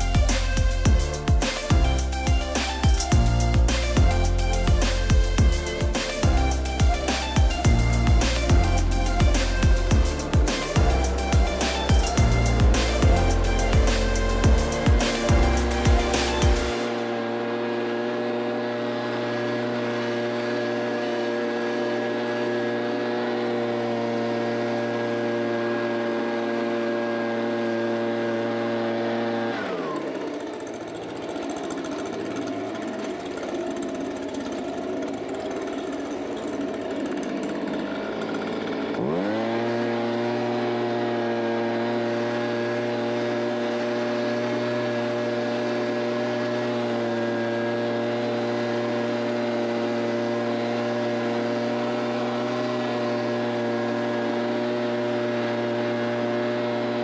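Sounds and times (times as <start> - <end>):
leaf blower whining: 0.0 - 57.0.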